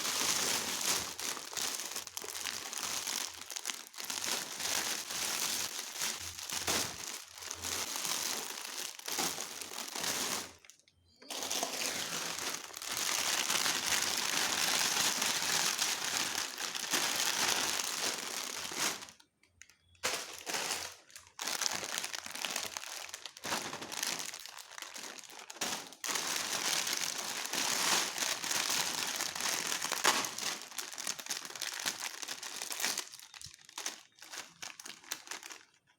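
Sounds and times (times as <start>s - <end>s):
plastic snack packets crinkling: 0.0s - 35.9s.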